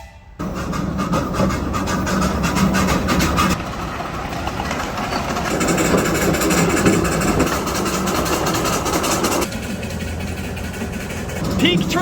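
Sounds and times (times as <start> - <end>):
miniature train running: 0.4 - 12.0.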